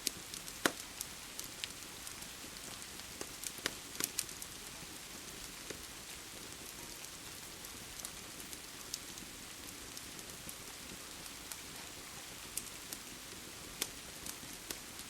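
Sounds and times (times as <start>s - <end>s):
fireplace fire crackling: 0.0s - 15.0s
rain falling: 0.0s - 15.0s.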